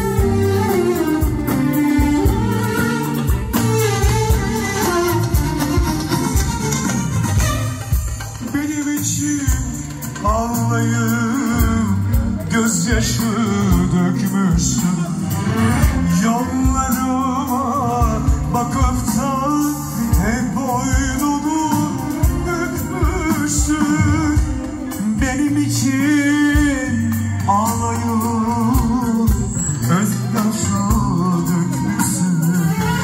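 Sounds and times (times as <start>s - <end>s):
man singing with vibrato: 0.0s - 6.8s, 7.8s - 33.0s
live band music: 0.0s - 33.0s.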